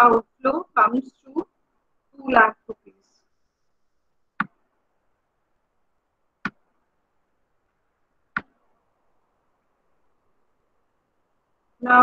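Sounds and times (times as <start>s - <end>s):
faint room hiss: 0.0s - 12.0s.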